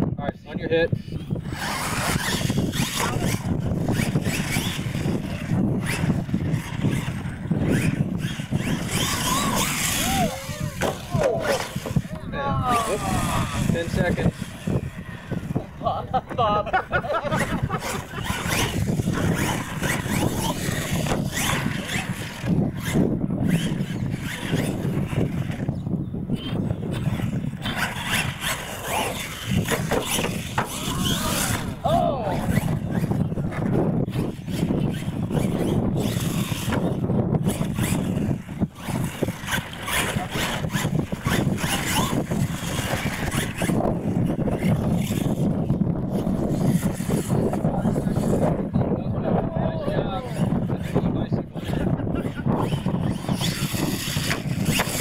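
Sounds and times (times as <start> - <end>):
rc truck motor revving: 1.0 - 16.1, 17.2 - 48.7, 50.3 - 55.0.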